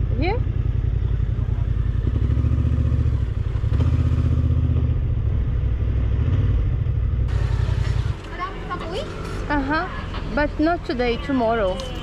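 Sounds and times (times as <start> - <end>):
motorcycle engine idling: 0.0 - 6.1, 6.7 - 10.2.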